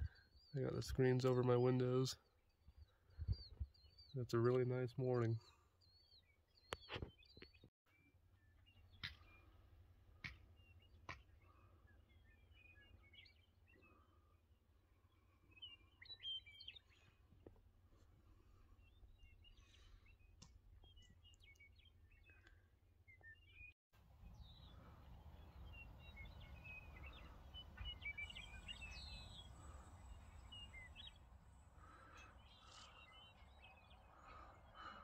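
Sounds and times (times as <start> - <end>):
songbirds chirping: 0.0 - 35.0.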